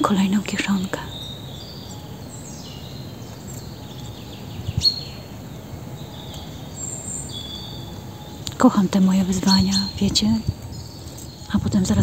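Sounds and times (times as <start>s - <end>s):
faint birdsong: 0.0s - 12.0s
low background noise: 0.0s - 12.0s.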